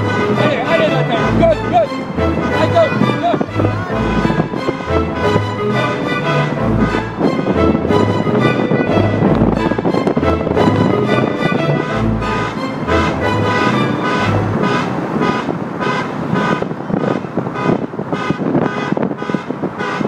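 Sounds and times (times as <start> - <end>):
car horn tooting: 0.0 - 7.6, 11.2 - 20.0
moving car noise: 0.0 - 20.0.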